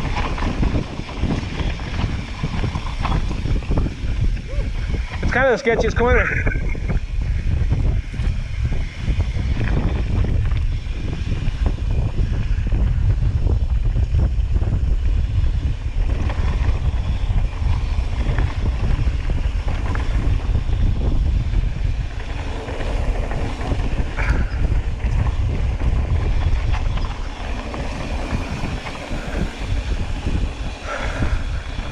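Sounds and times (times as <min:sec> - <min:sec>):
bike rattling on dirt trail: 0:00.0 - 0:31.9
wind buffeting camera: 0:00.0 - 0:31.9.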